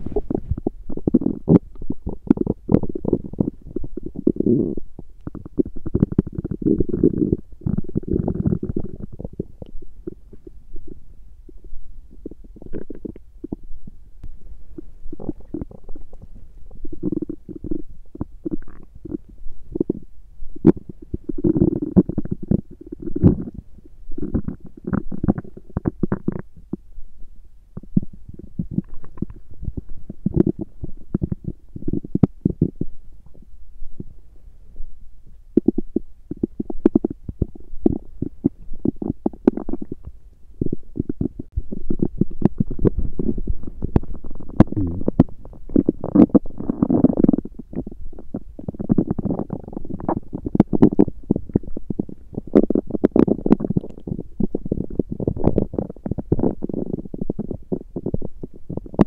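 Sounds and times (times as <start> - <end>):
woman's stomach growling: 0.0 - 26.8, 27.8 - 34.2, 34.8 - 59.0.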